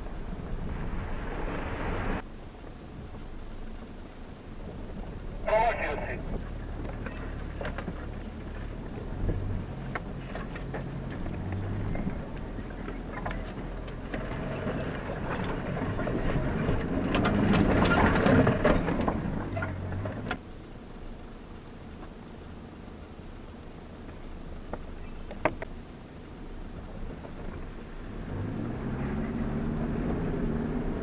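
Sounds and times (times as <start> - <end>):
engine running at low speed: 0.0 - 31.0.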